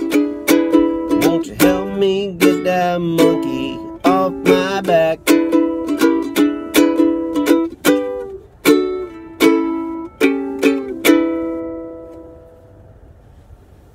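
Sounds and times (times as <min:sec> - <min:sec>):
ukulele strumming chords: 0:00.0 - 0:12.5.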